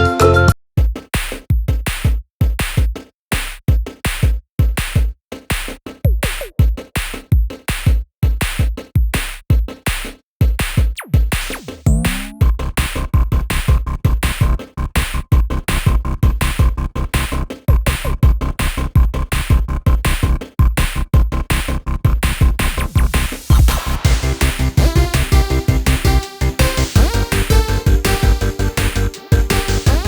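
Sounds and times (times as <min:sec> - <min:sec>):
choppy electronic music with drums: 0:00.0 - 0:30.0.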